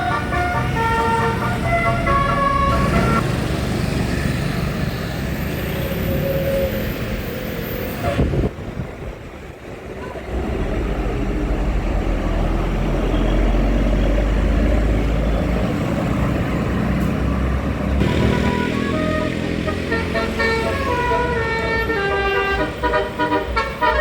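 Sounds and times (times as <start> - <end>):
heavy vehicle engine rumble: 0.0 - 24.0
road traffic noise: 0.0 - 24.0.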